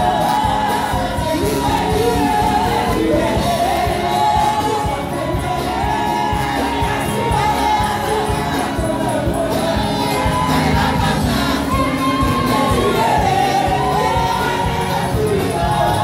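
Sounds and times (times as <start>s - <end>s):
band with steady beat: 0.0s - 16.0s
congregation singing: 0.0s - 16.0s
women singing into microphones: 0.0s - 16.0s.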